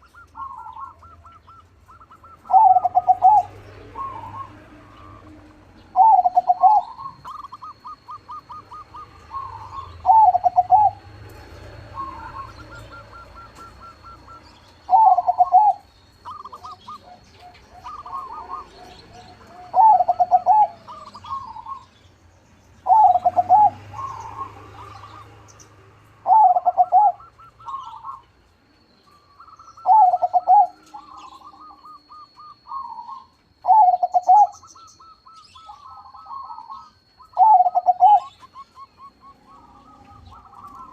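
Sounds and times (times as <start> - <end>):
dove cooing: 0.0 - 21.9, 22.8 - 40.9
faint high whine: 0.0 - 40.9.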